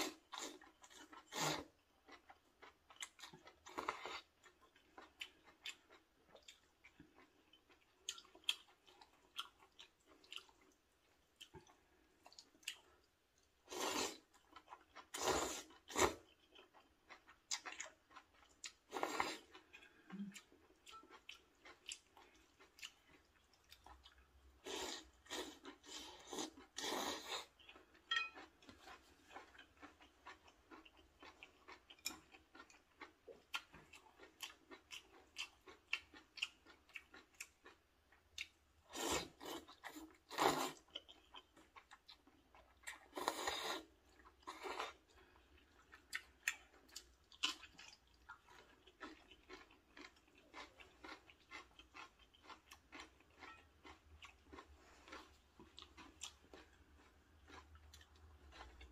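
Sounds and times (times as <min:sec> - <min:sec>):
wet chewing: 0:00.1 - 0:58.9.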